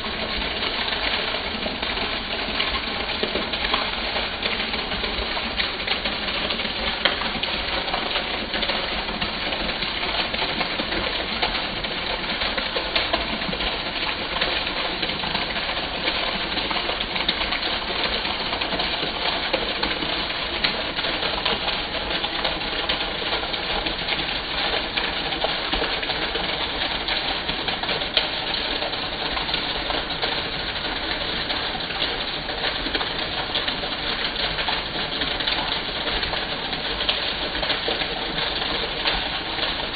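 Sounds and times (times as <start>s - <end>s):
heavy rain: 0.0s - 39.9s
rainwater pouring off a roof: 0.0s - 39.9s.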